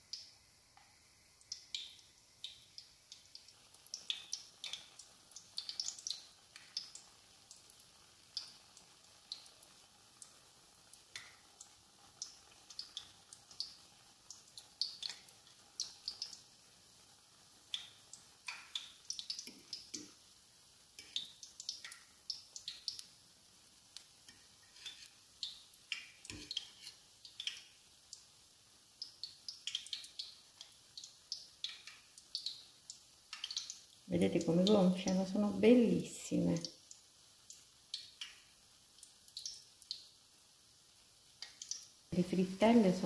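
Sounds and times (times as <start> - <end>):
deep-frying crackling pops: 0.0 - 35.8, 36.4 - 43.0.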